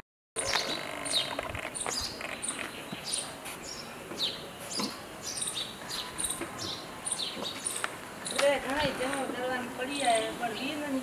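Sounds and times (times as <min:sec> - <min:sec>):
faint outdoor hiss: 0:00.4 - 0:11.0
small birds chirping: 0:00.4 - 0:11.0.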